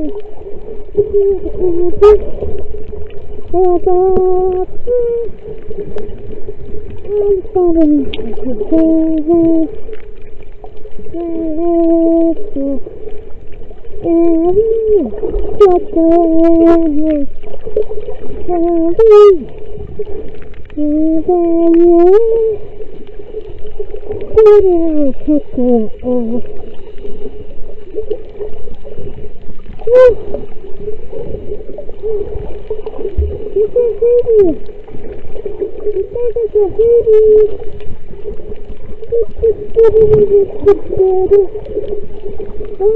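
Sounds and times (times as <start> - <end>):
water noise and gurgling: 0.0 - 42.9
woman singing underwater: 0.0 - 42.9.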